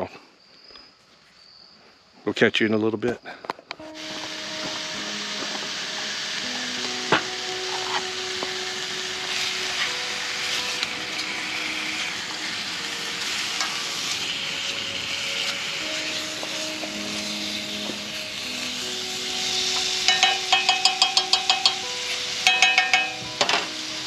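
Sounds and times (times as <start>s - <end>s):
steak sizzling in a skillet: 3.8s - 24.0s.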